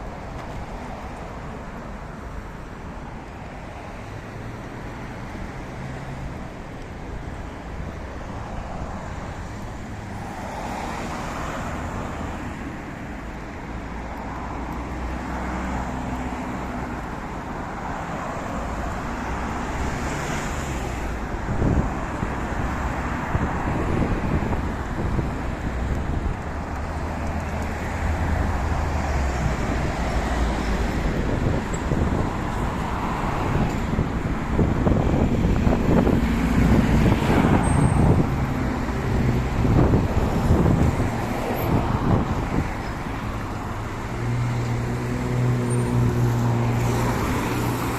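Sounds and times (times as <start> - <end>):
vehicles passing: 0.0 - 47.9.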